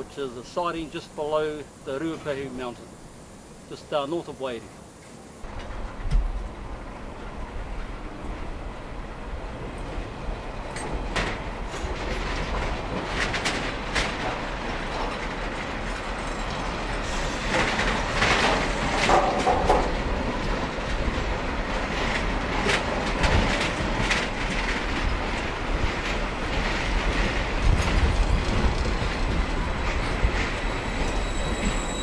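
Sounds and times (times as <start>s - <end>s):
train rumble: 0.0s - 32.0s
wheels clicking over rail joints: 5.0s - 32.0s.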